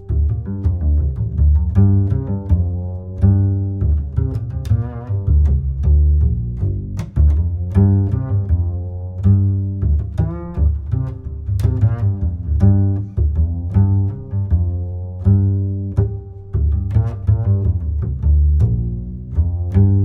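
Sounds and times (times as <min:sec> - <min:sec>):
plucked notes over bass line: 0:00.0 - 0:20.0.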